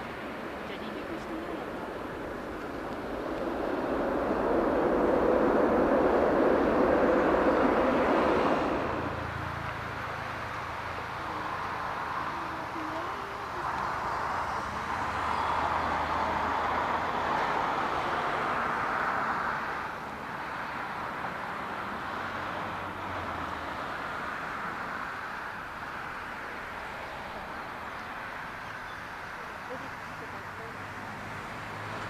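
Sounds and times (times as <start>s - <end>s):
jet engine rush: 0.0s - 32.0s.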